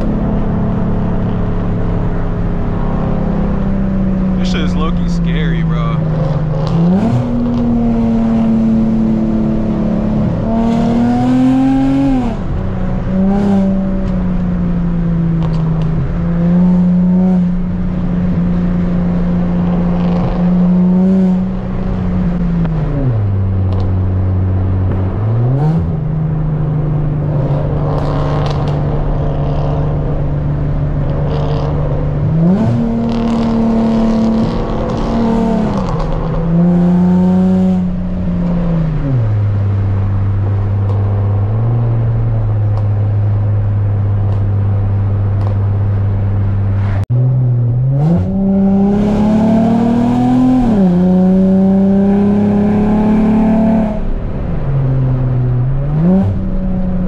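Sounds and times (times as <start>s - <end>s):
loud car exhaust revving: 0.0s - 57.0s.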